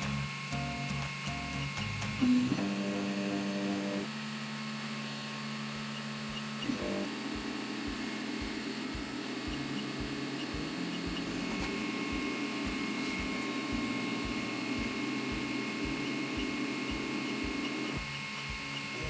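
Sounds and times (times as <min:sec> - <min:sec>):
printer fan whir: 0:00.0 - 0:19.0.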